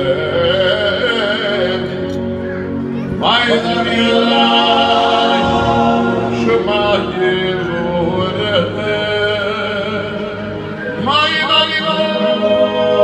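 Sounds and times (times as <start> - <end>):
male vocal group singing: 0.0 - 2.3, 3.1 - 13.0.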